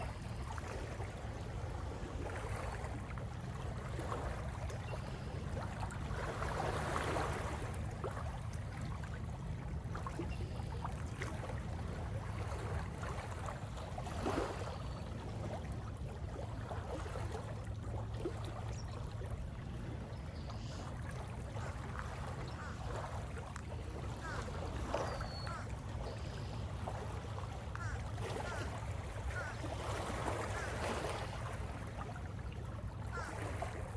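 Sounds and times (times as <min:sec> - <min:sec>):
lake waves lapping: 0:00.0 - 0:33.9.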